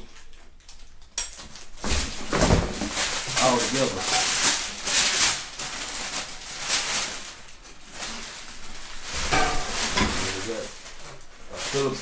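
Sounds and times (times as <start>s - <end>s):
packing paper crinkling: 0.0s - 12.0s.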